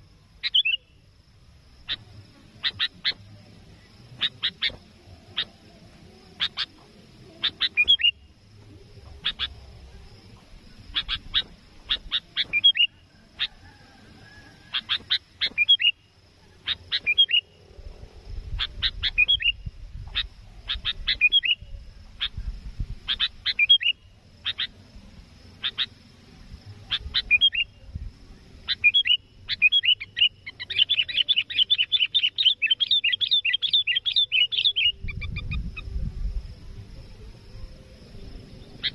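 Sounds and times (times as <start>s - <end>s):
bulbul calling: 0.0s - 1.1s, 1.8s - 17.6s, 18.5s - 26.1s, 26.8s - 27.9s, 28.6s - 36.0s, 37.1s - 38.9s.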